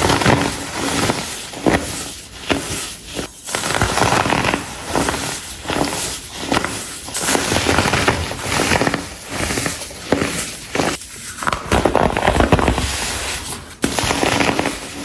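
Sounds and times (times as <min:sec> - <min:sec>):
baking soda blocks crunching: 0:00.0 - 0:15.0.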